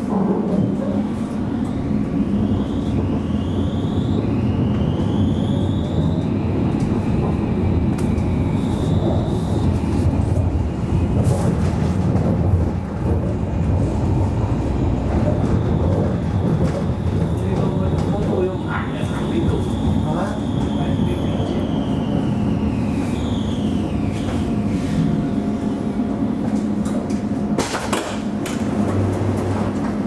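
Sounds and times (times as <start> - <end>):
tram traction drive whining: 0.0 - 30.0
wheels rumbling on rail: 0.0 - 30.0.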